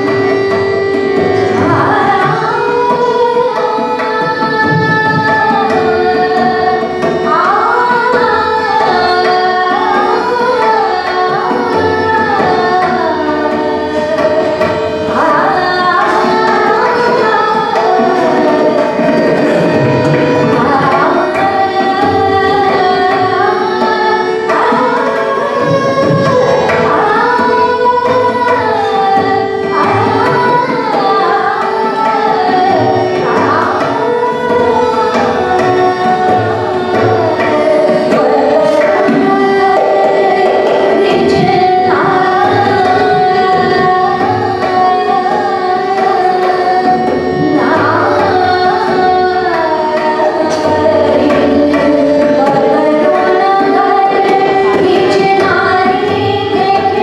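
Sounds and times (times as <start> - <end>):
tabla: 0.0 - 57.0
woman singing: 0.0 - 57.0.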